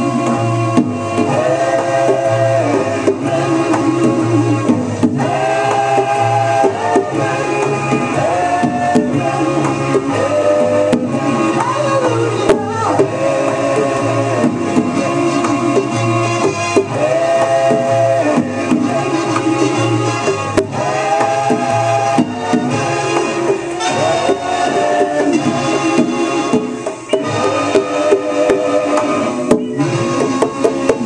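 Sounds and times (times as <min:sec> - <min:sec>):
recorded song with singing: 0:00.0 - 0:31.0.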